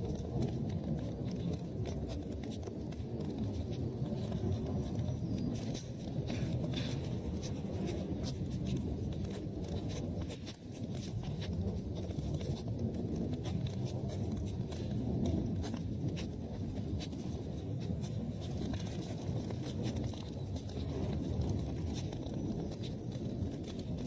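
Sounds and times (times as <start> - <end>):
fire crackling and popping: 0.0 - 24.0
fire flames rushing: 0.1 - 24.0.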